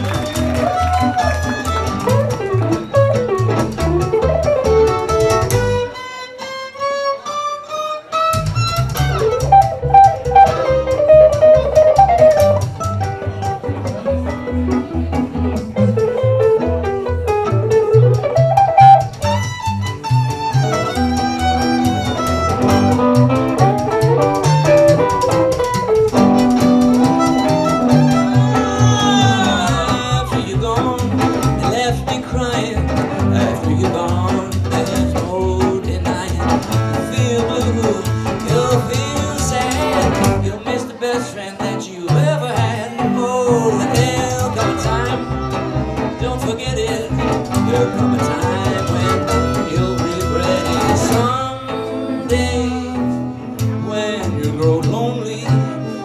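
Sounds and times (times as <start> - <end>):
plucked upright bass: 0.0 - 5.9, 8.3 - 56.0
electric guitar: 0.0 - 56.0.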